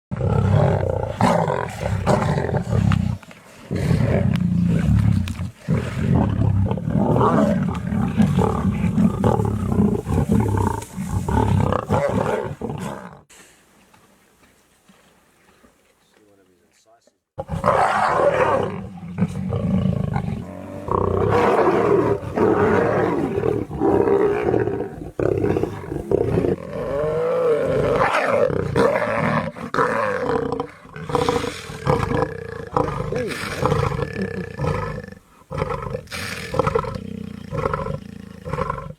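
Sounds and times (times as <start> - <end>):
lion roaring: 0.1 - 13.2, 17.4 - 38.9.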